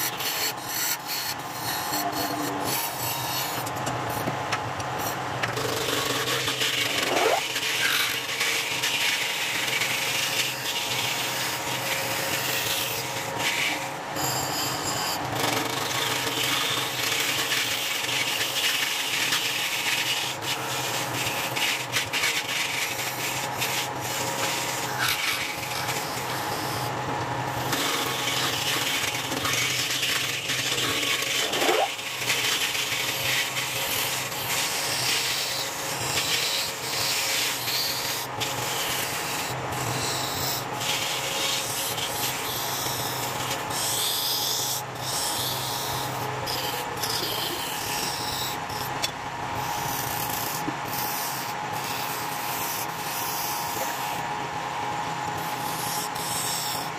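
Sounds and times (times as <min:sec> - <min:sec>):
turning tool cutting wood: 0:04.8 - 0:54.3, 0:55.2 - 0:56.9.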